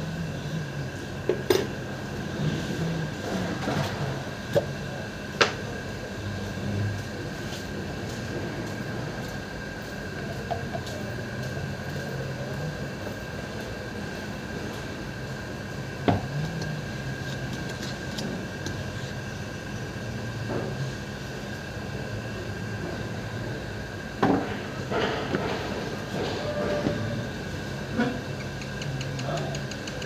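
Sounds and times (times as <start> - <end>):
faint constant whine: 0.0 - 30.0
mechanical hum: 0.0 - 30.0.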